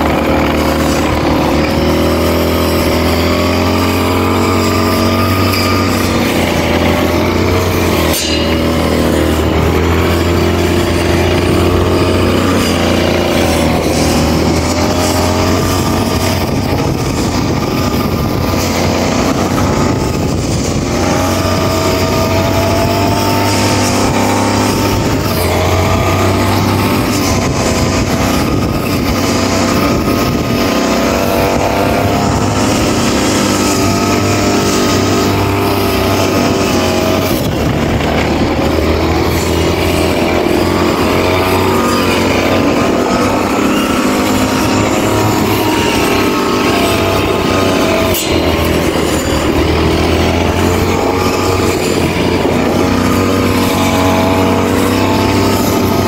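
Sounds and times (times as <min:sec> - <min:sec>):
brush cutter cutting grass: 0:00.0 - 0:56.0.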